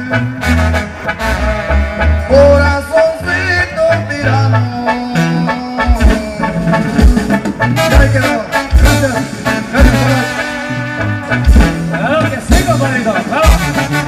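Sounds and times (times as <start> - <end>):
sousaphone bass line: 0.0 - 14.0
trombones and trumpet: 0.0 - 14.0.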